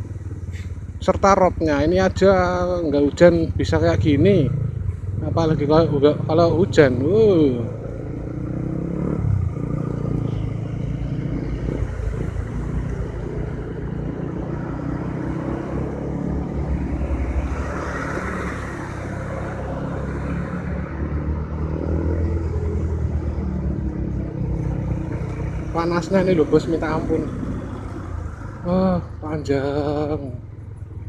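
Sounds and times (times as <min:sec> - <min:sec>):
motorcycle engine rumble: 0:00.0 - 0:31.0
slow traffic rumble: 0:00.0 - 0:31.0.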